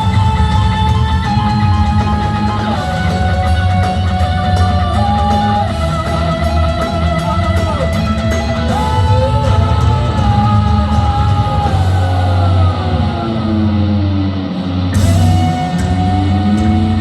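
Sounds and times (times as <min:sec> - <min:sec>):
electric guitar sliding notes: 0:00.0 - 0:17.0
live hard rock band playing: 0:00.0 - 0:17.0.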